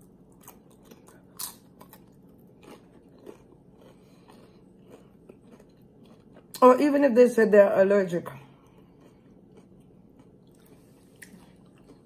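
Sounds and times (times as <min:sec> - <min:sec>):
chewing crunchy chips: 0:00.0 - 0:07.1, 0:08.2 - 0:12.0.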